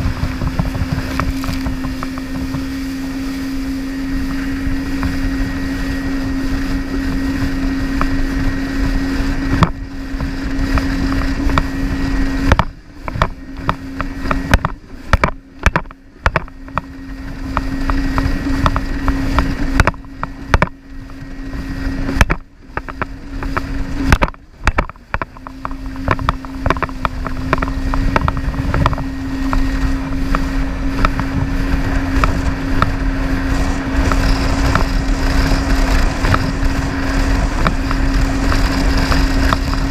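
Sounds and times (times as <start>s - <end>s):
jet ski engine running: 0.0s - 39.9s
rush of wind and water: 0.0s - 39.9s.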